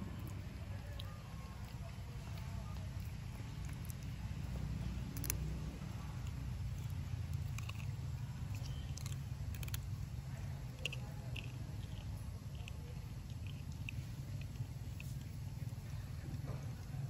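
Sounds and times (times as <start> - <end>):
monkey sucking and licking fingers: 0.1 - 17.0.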